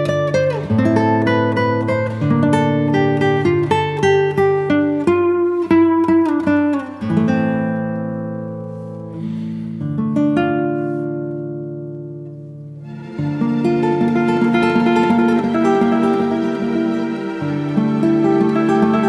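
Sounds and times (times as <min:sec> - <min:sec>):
plucked guitar: 0:00.0 - 0:19.0.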